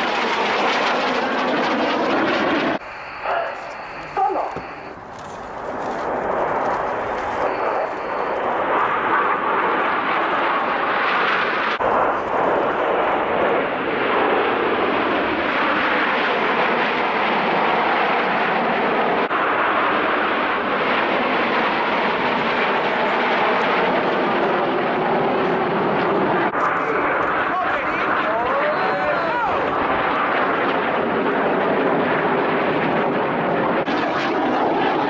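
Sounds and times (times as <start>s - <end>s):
jets flying past: 0.0s - 35.0s.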